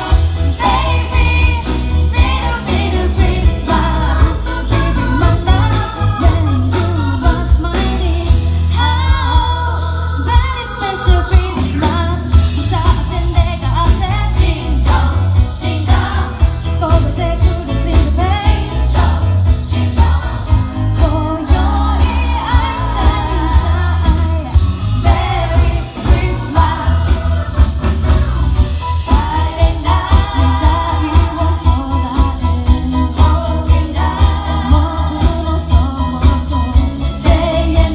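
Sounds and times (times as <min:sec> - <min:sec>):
christmas pop song: 0:00.0 - 0:37.9
pop beat with bass: 0:00.0 - 0:37.9.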